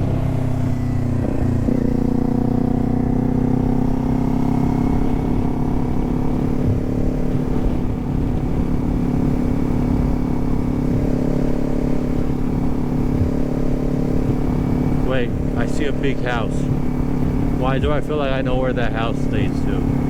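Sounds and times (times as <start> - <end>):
motorcycle engine running: 0.0 - 20.0
wind rumble on microphone: 0.0 - 20.0.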